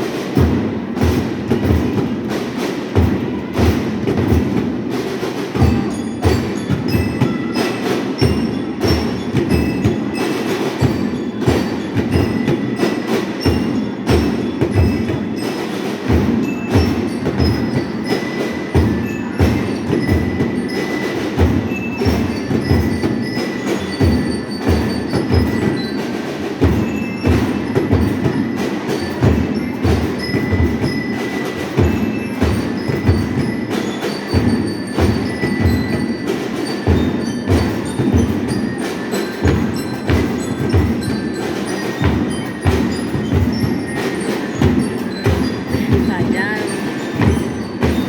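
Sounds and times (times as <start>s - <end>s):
bell lyres ringing melody: 0.0s - 48.0s
marching drums: 0.0s - 48.0s.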